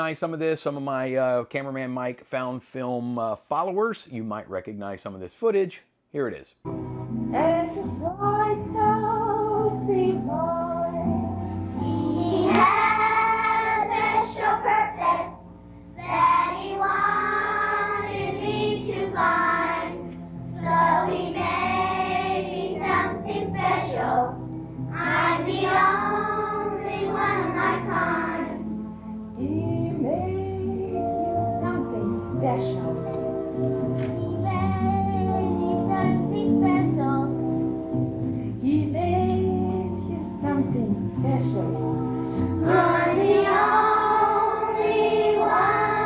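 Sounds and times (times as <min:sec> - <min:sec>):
singing with music: 0:07.2 - 0:46.0.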